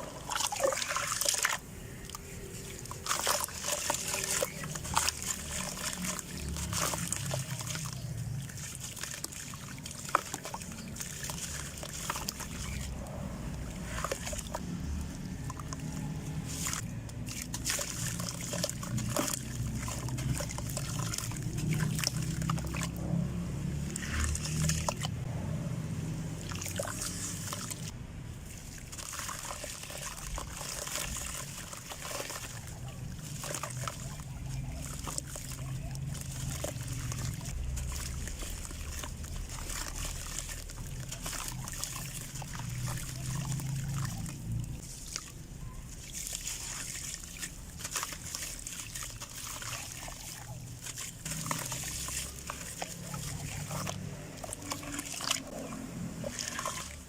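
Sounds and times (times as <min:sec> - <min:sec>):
dirt crackling in water: 0:00.0 - 0:57.0
wet trickle and slosh: 0:00.0 - 0:57.0.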